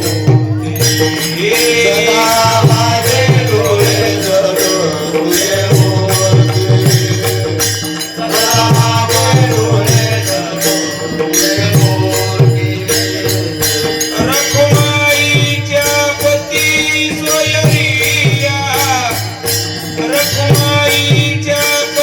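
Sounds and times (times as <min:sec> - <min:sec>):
man singing devotional melody: 0:00.0 - 0:22.0
small hand cymbals: 0:00.0 - 0:22.0.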